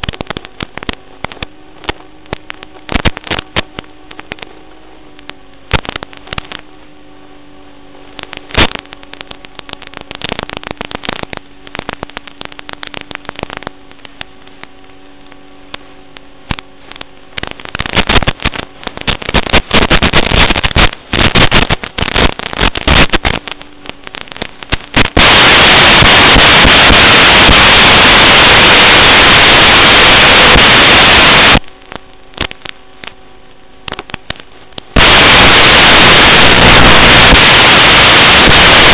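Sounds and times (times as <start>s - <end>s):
electrical hum: 0.0s - 38.9s
loud static hiss: 0.0s - 38.9s
static crackling and popping: 0.0s - 38.9s.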